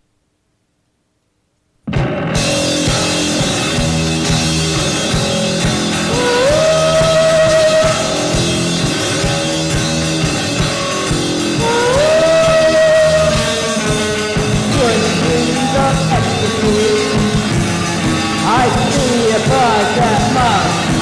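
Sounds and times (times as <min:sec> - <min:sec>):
instrumental rock music: 0:01.9 - 0:21.0.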